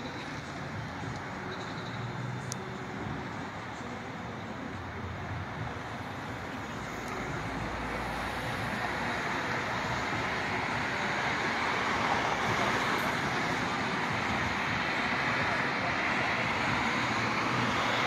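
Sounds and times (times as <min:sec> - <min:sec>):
distant road traffic rushing: 0:00.0 - 0:18.0.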